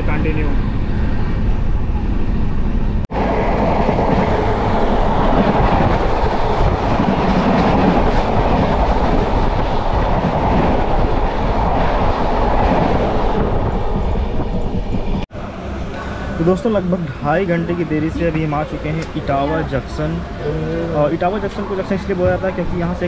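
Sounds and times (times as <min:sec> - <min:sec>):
train rushing past: 0:00.0 - 0:23.0.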